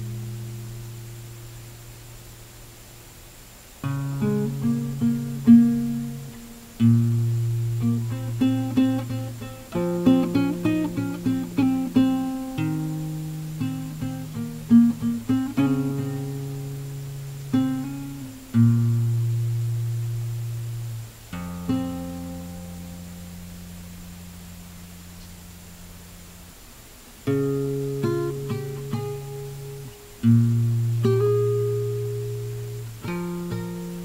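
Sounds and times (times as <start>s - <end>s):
acoustic guitar: 0.0s - 2.2s, 3.8s - 34.0s.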